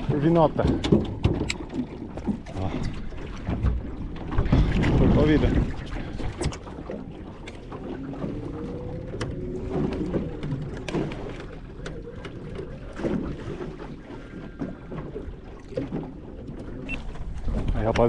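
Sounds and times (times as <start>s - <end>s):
water around boat: 0.0s - 18.0s.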